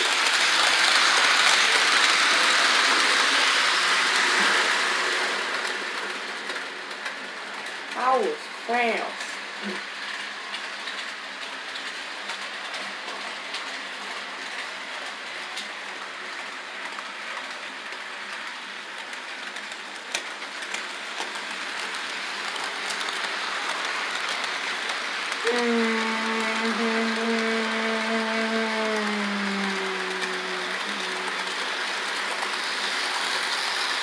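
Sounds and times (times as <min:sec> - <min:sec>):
model train rattling on track: 0:00.0 - 0:34.0.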